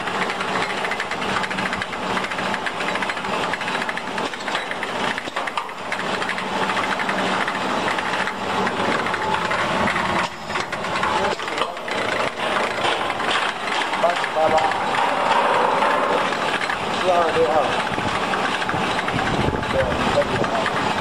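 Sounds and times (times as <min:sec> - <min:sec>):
knitting machine clattering: 0:00.0 - 0:21.0.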